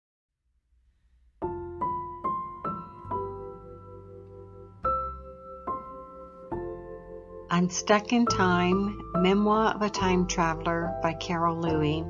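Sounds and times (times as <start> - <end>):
piano notes and chords: 1.2 - 12.0.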